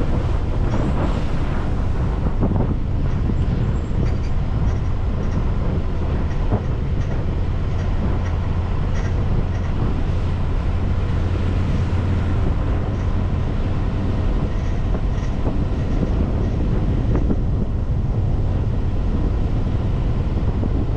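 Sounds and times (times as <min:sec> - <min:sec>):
car engine and tyres rumbling: 0:00.0 - 0:20.9.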